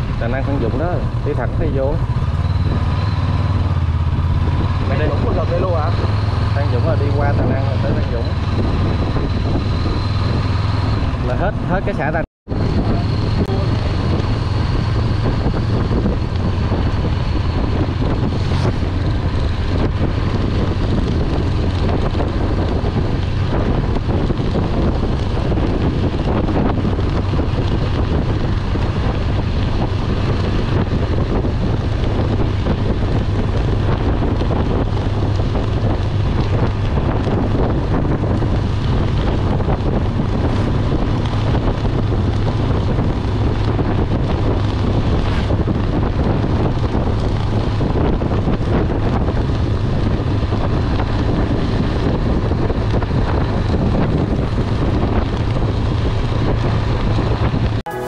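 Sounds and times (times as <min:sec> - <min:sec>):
motorcycle low rumble: 0:00.0 - 0:58.0
wind rushing over microphone: 0:00.0 - 0:58.0.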